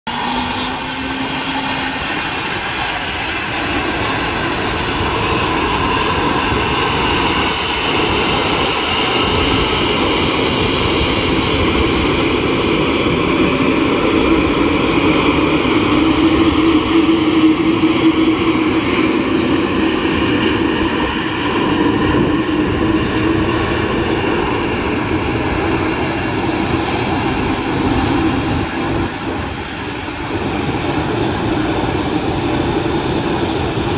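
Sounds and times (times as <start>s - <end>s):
airliner taxiing jet whine: 0.1s - 33.9s.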